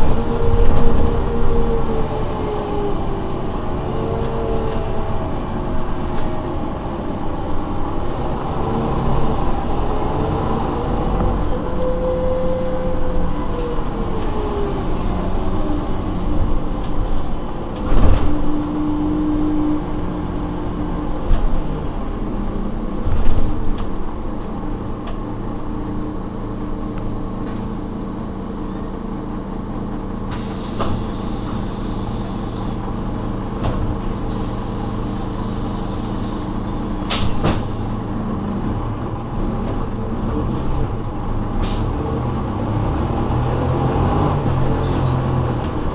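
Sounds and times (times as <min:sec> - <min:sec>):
bus drivetrain whine: 0:00.0 - 0:45.9.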